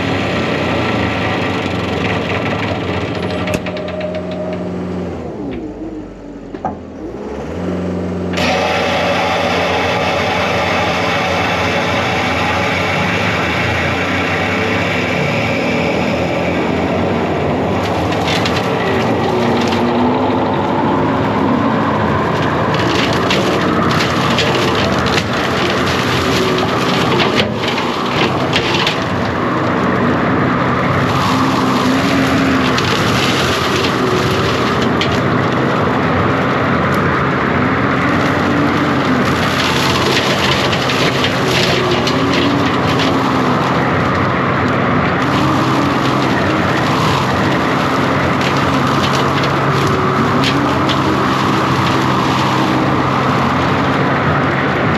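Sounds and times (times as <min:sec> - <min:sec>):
diesel engine running under load: 0:00.0 - 0:54.9
hydraulic cutter whine: 0:00.0 - 0:54.9
brush cracking and crunching: 0:08.4 - 0:54.9.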